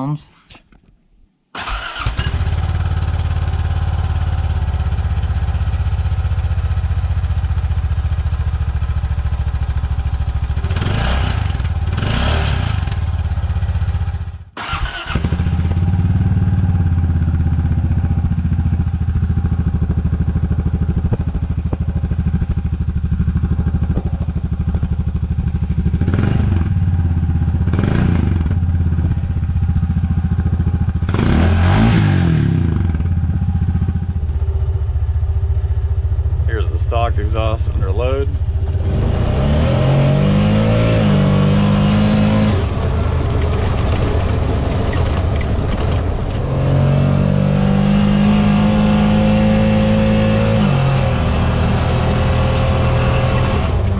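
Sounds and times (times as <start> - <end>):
engine idling and revving: 1.6 - 53.9.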